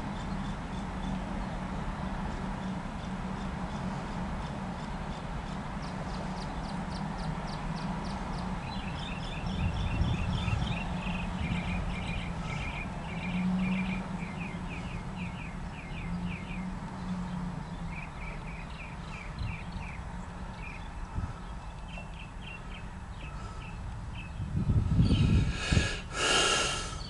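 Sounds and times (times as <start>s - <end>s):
songbird chirping: 4.8s - 27.0s.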